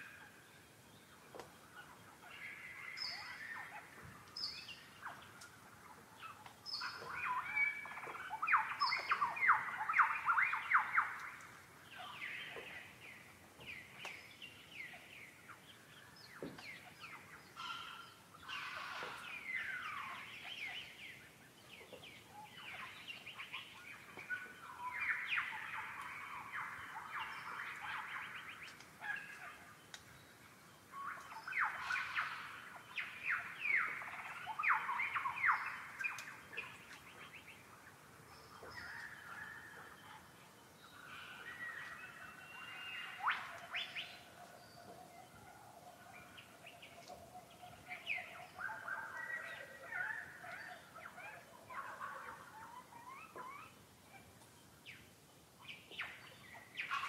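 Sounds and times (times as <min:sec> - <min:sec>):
birds chattering: 0:01.1 - 0:55.1.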